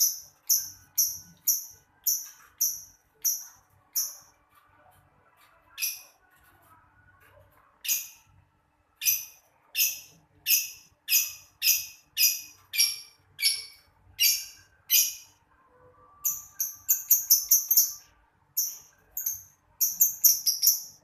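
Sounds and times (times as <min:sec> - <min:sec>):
lovebird chirping: 0:00.0 - 0:04.4, 0:05.6 - 0:06.2, 0:07.8 - 0:08.4, 0:09.0 - 0:21.0.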